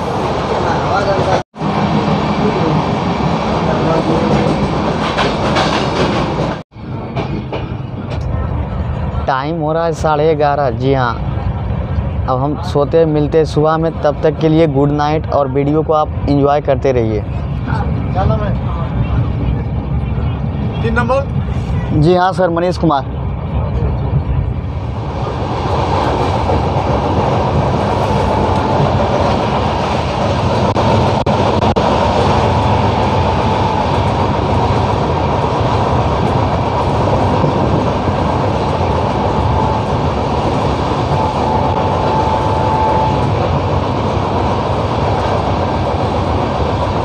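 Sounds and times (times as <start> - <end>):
train wheels rumbling on rails: 0.0 - 16.6, 17.2 - 47.0.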